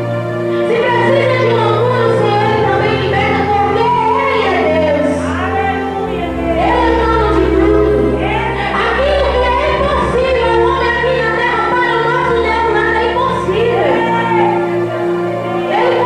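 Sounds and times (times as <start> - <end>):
people singing worship music: 0.0 - 16.0
sustained low accompaniment: 0.0 - 16.0.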